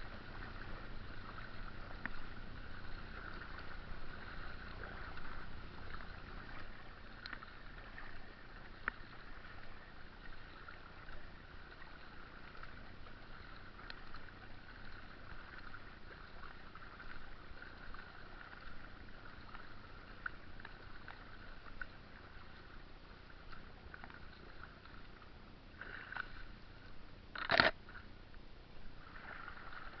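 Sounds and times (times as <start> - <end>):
water swishing around kayak paddle: 0.0 - 30.0.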